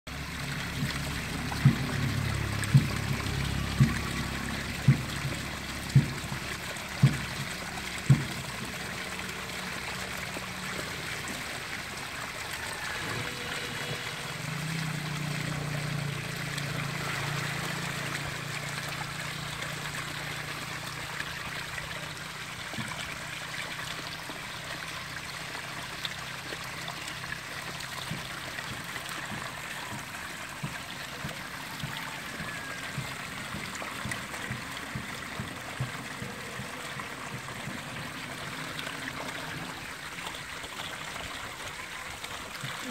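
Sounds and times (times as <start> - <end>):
water trickling: 0.1 - 42.9.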